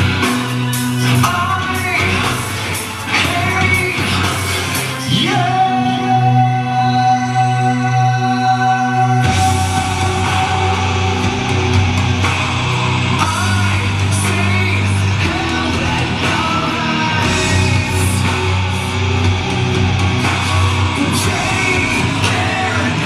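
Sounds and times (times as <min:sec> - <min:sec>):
rock song through speakers: 0:00.0 - 0:23.0.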